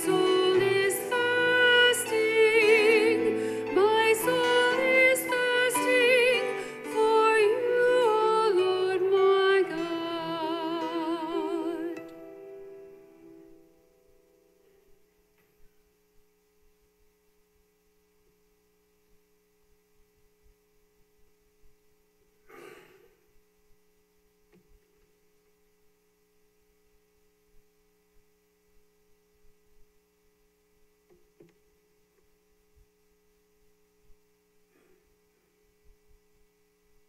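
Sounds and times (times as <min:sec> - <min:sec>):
faint electrical hum: 0:00.0 - 0:37.0.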